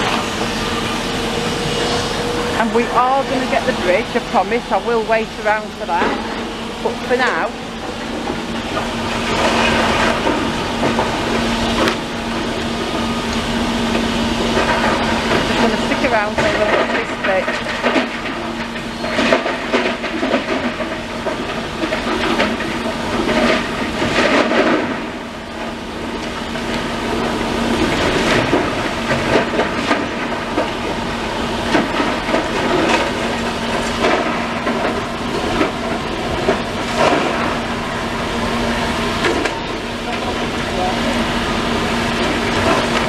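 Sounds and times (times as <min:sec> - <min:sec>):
excavator engine humming: 0:00.0 - 0:43.0.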